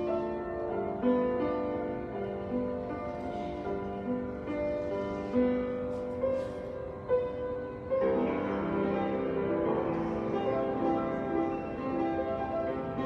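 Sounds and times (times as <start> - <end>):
slow gentle keyboard music: 0.0 - 13.0.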